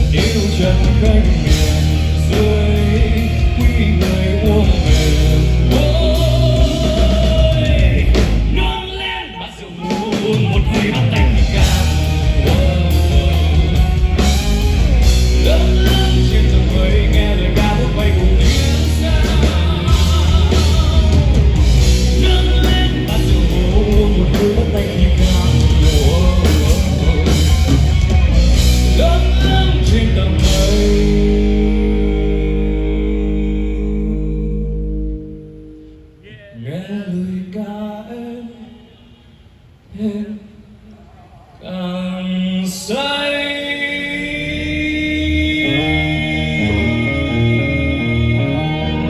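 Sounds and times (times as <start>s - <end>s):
rock band playing: 0.0s - 36.2s, 44.2s - 49.0s.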